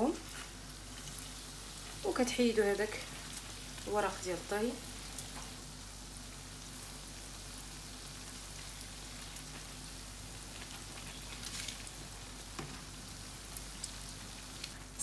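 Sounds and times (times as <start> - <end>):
doughnuts sizzling in hot oil: 0.0 - 15.0
oil crackling: 0.0 - 15.0.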